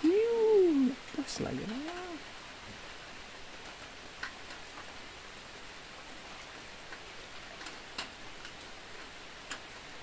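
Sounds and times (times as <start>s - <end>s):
light rain on water: 0.0s - 10.0s.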